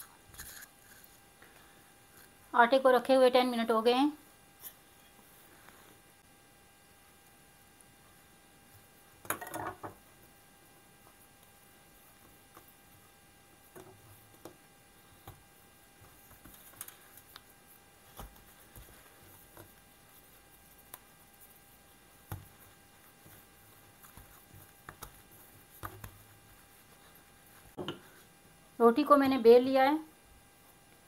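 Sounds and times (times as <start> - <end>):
hands shaping dough: 0.0 - 3.6, 4.3 - 31.0
faint hum: 0.0 - 31.0.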